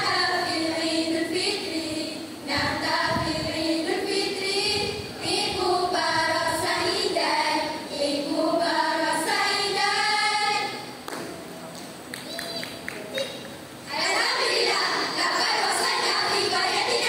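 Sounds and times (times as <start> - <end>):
girls' group chanting melodically: 0.0 - 10.9, 13.9 - 17.0.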